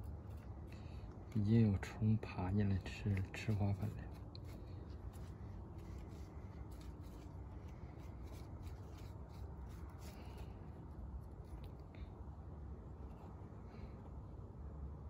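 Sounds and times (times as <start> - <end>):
rustling and light scratching: 0.0 - 14.2
low steady hum: 0.0 - 15.0.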